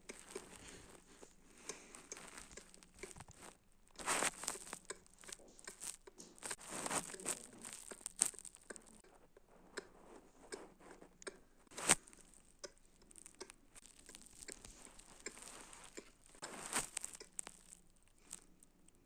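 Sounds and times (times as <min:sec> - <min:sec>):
small clicks and crackles: 0:00.0 - 0:19.0.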